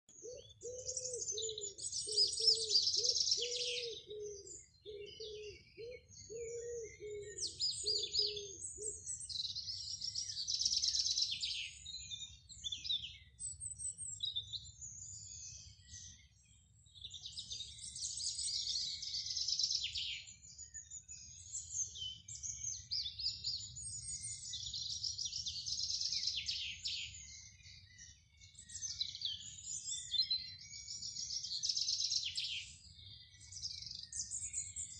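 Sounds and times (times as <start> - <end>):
low repeated bird call: 0.1 - 34.9
songbirds singing: 0.1 - 34.9.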